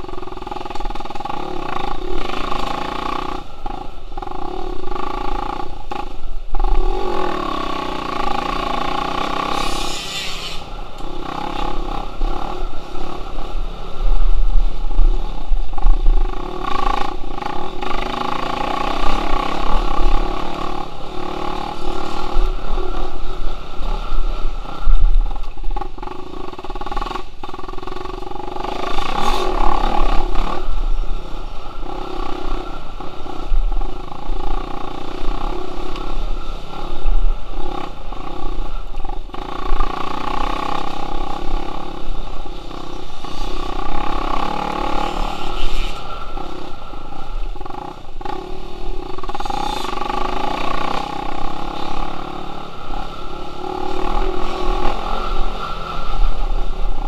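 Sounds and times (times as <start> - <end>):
dirt bike engine revving: 0.0 - 57.0
wind rumbling on microphone: 3.4 - 57.0.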